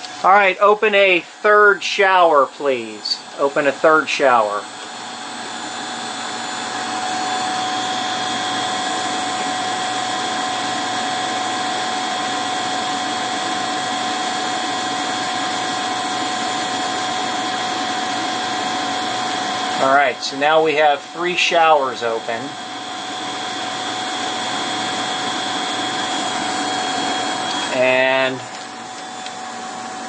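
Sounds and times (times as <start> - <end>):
pump motor whining: 2.2 - 30.0.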